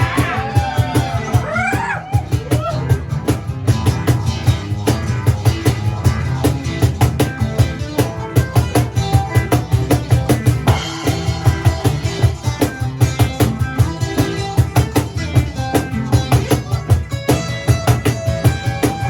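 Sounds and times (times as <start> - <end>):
drum kit fast beat: 0.0 - 19.0
rock band playing: 0.0 - 19.0.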